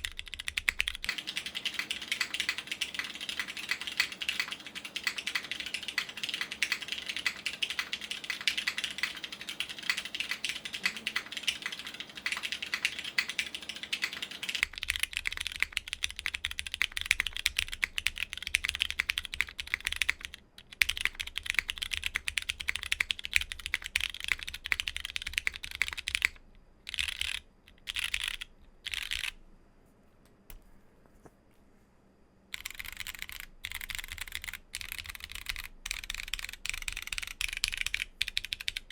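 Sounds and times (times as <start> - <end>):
mechanical keyboard typing: 0.0 - 29.4, 32.5 - 38.9.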